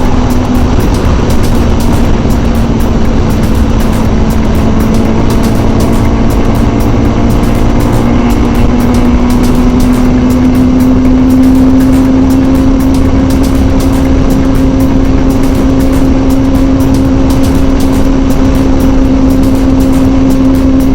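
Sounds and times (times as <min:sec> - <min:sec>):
motorcycle engine at highway speed: 0:00.0 - 0:20.9
wind rushing on microphone: 0:00.0 - 0:20.9.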